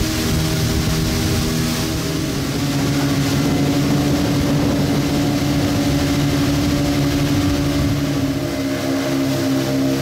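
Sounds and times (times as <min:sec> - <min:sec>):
outboard motors running: 0:00.0 - 0:10.0
water rushing and spraying: 0:00.0 - 0:10.0.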